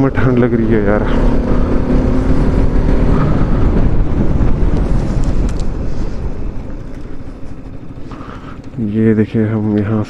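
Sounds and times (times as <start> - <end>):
wind rumble on microphone: 0.0 - 8.7
motorcycle engine running: 0.0 - 10.0.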